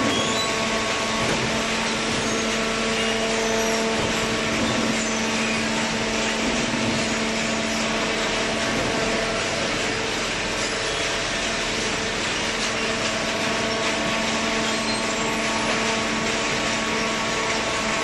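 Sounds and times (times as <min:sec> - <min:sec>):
hydraulic baler machine hum: 0:00.0 - 0:18.0.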